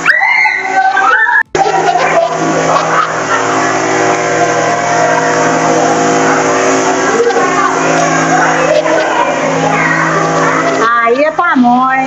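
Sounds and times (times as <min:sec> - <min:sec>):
pressure washer motor hum: 0:00.0 - 0:12.0.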